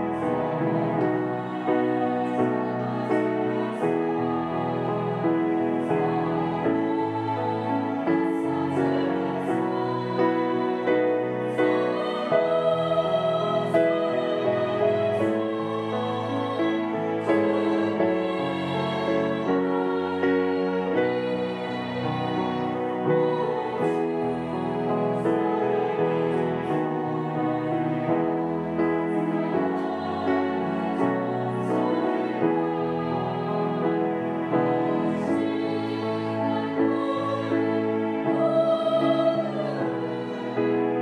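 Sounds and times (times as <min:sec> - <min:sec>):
women's choir singing a hymn: 0:00.0 - 0:41.0.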